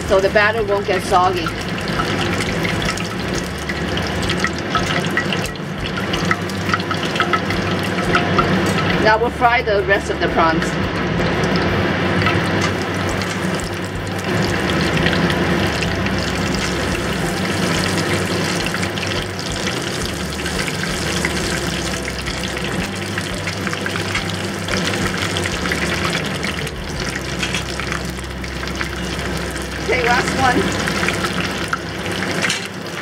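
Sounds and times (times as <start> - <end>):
prawns deep-frying in bubbling oil: 0.0 - 33.0.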